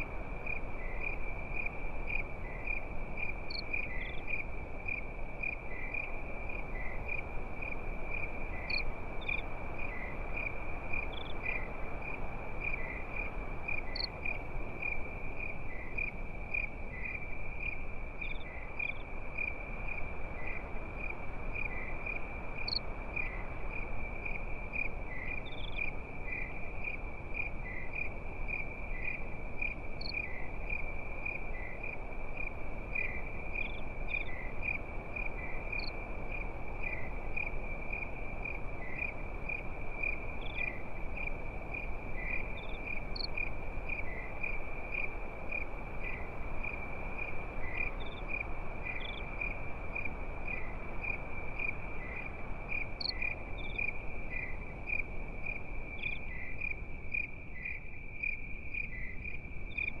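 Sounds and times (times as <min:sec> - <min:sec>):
crickets trilling: 0:00.0 - 1:00.0
low even hiss: 0:00.0 - 1:00.0.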